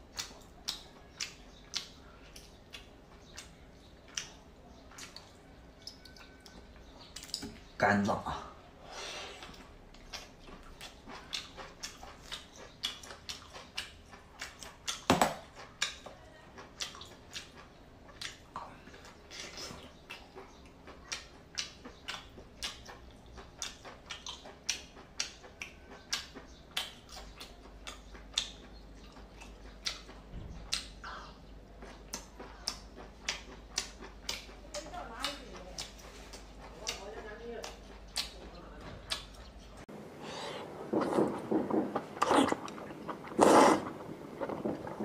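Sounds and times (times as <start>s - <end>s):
person chewing wetly: 0.0s - 7.8s, 9.4s - 45.0s.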